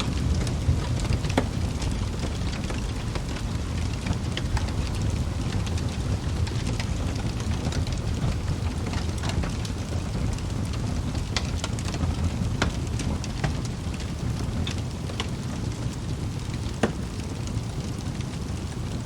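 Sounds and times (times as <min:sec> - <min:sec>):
fire flames rumbling: 0:00.0 - 0:19.0
wood crackling and popping: 0:00.0 - 0:19.0.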